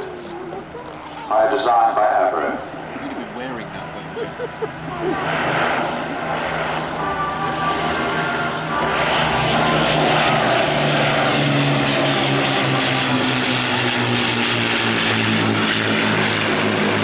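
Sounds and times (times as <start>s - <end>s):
propeller plane engines droning: 0.0s - 17.0s.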